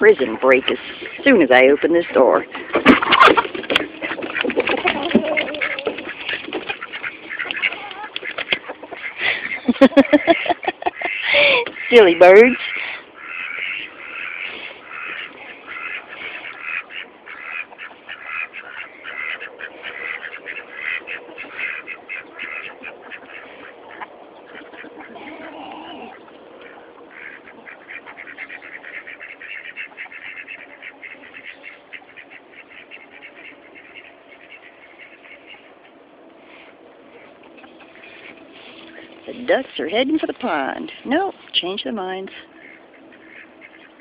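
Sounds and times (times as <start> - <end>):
ducks quacking: 0.0 - 44.0.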